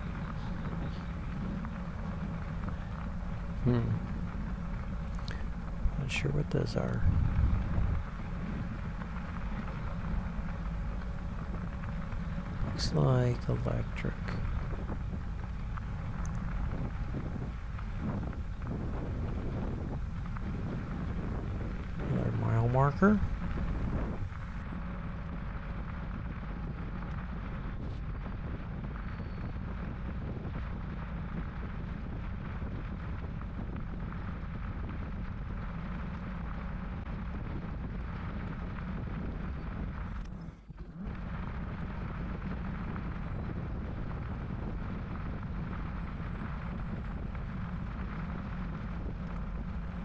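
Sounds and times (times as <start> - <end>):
wind rumble on microphone: 0.0 - 50.0.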